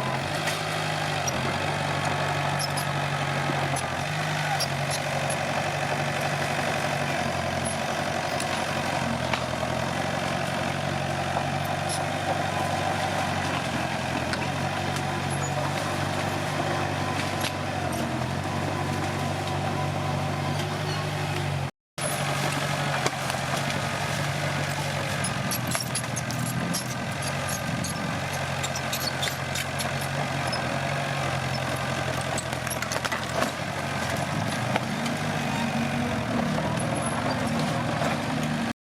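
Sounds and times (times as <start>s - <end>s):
bulldozer diesel engine running: 0.0s - 38.8s.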